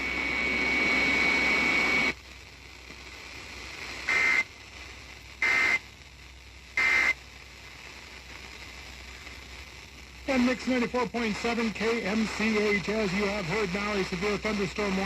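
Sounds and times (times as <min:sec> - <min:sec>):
hiss with steady high tone: 0:00.0 - 0:15.0.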